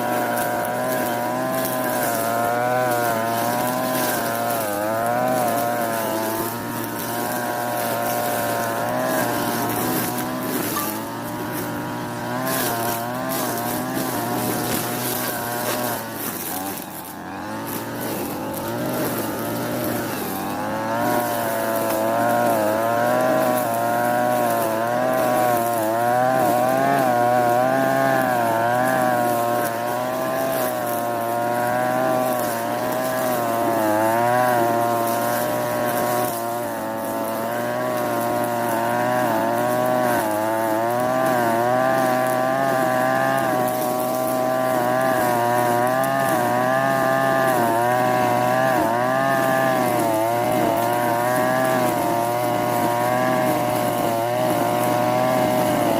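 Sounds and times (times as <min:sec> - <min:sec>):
brushcutter engine cutting grass: 0:00.0 - 0:55.9.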